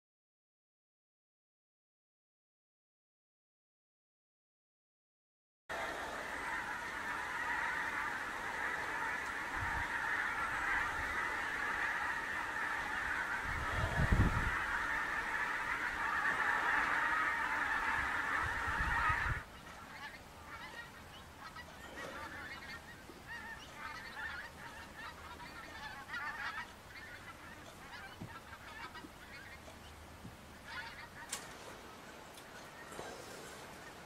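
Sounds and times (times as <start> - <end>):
geese honking: 5.7 - 34.0.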